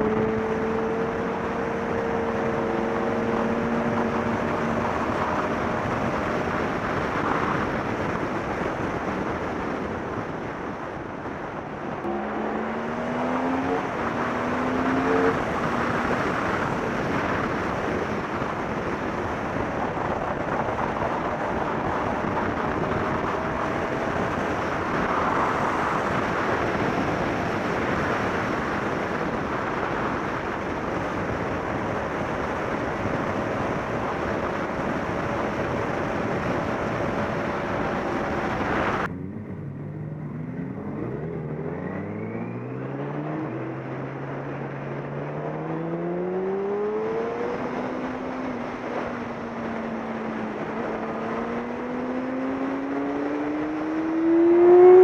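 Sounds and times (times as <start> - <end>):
heavy wind rush: 0.0 - 55.0
motorcycle engine accelerating: 0.0 - 55.0.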